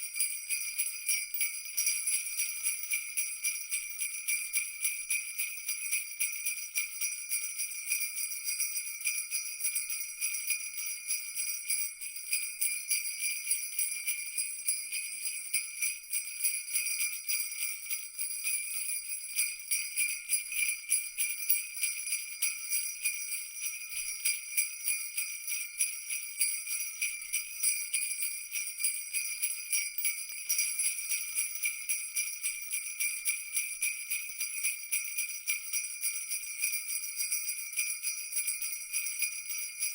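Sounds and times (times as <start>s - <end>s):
jingle bells shaken: 0.0s - 39.9s.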